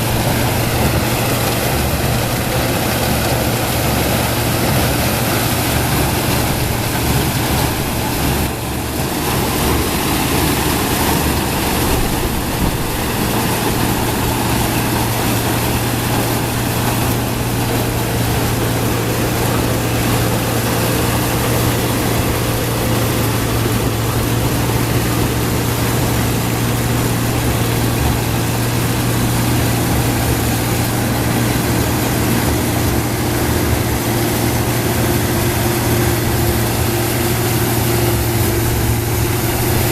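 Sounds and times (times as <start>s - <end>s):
combine engine drone: 0.0s - 39.9s
machinery noise: 0.0s - 39.9s.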